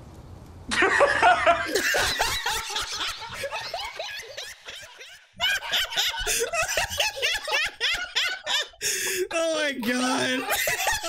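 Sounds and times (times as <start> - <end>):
people laughing: 0.7 - 11.0.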